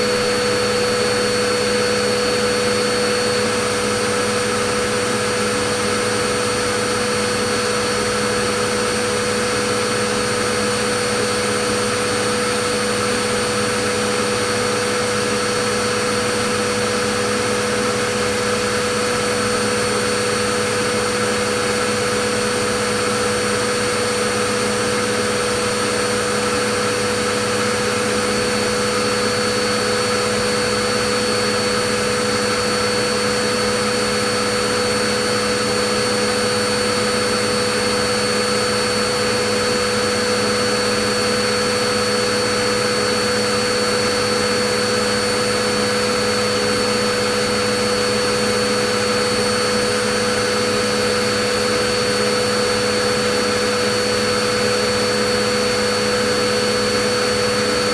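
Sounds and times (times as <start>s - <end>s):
vacuum cleaner motor running: 0.0s - 57.9s.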